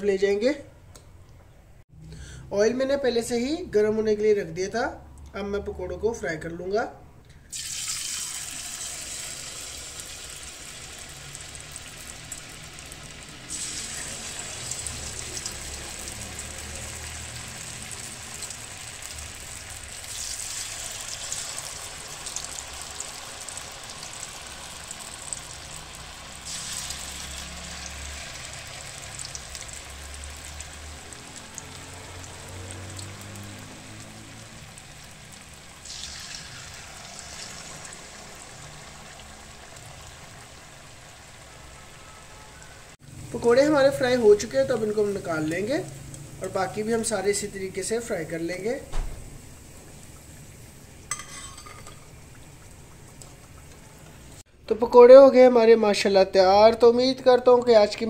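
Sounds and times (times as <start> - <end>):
fritters deep-frying in oil: 7.5 - 54.5.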